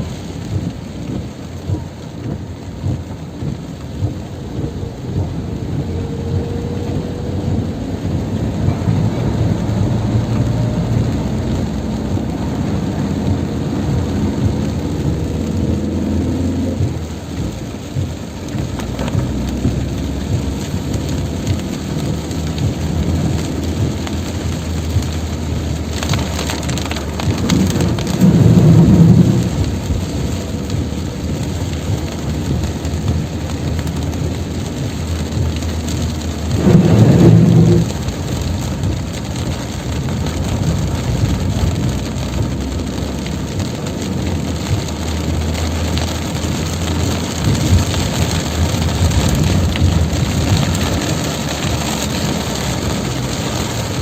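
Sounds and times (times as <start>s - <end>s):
heavy downpour: 0.0s - 54.0s
low rumble: 0.0s - 54.0s.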